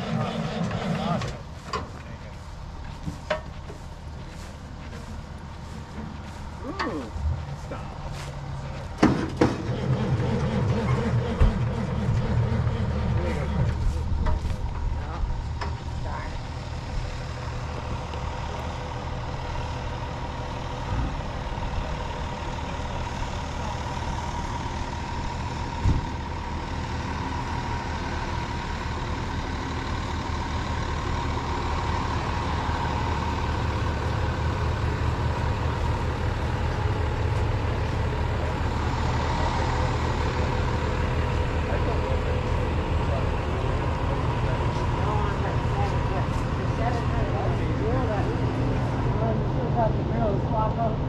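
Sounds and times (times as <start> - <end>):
low engine rumble: 0.0 - 51.0.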